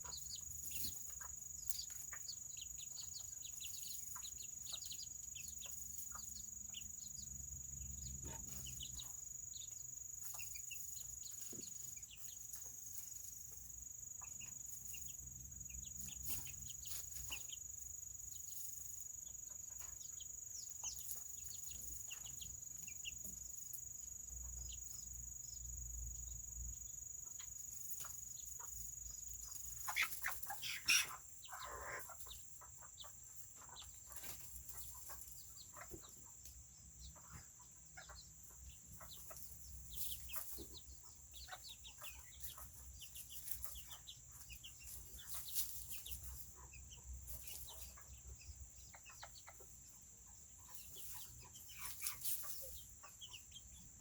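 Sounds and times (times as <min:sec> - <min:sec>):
chickens clucking and peeping: 0:00.0 - 0:54.0.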